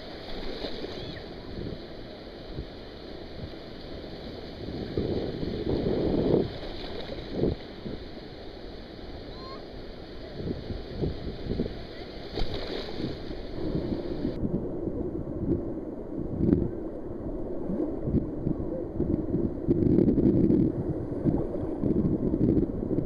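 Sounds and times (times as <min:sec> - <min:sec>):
surf washing and sloshing: 0:00.0 - 0:23.0
wind rumbling on microphone: 0:00.0 - 0:23.0.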